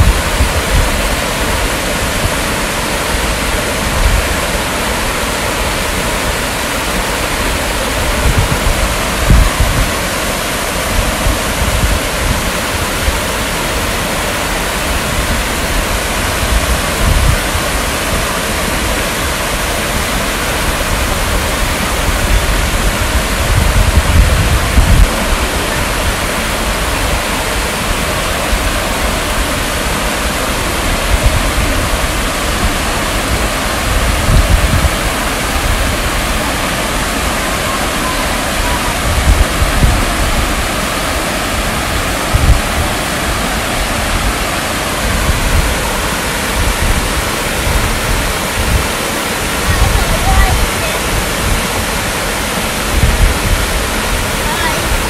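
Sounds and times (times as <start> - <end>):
waterfall splashing into pond: 0.0 - 55.0.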